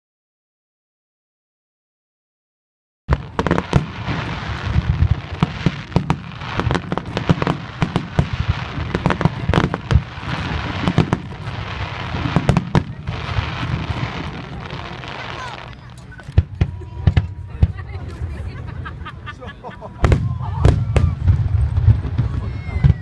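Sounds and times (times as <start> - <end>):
fireworks bangs: 3.1 - 18.9, 19.9 - 23.0.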